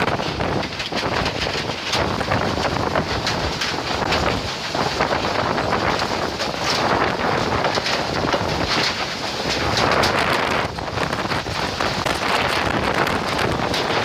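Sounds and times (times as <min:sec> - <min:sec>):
heavy rain: 0:00.0 - 0:14.0
wind buffeting microphone: 0:00.0 - 0:14.0.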